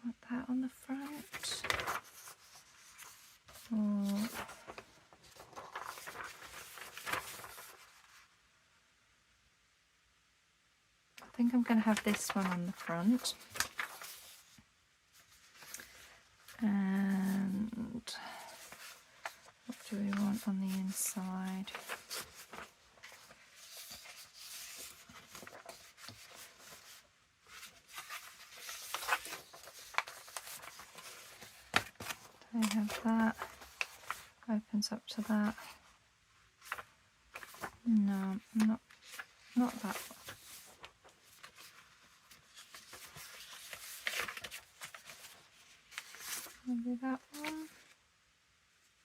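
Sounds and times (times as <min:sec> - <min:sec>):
paper rustling: 0:00.9 - 0:08.4, 0:11.2 - 0:48.0.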